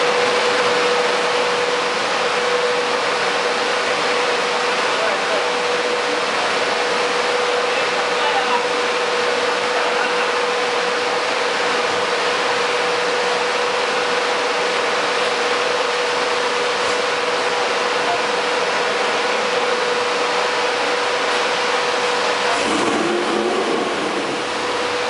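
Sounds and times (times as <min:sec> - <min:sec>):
air blower rushing and humming: 0:00.0 - 0:25.0.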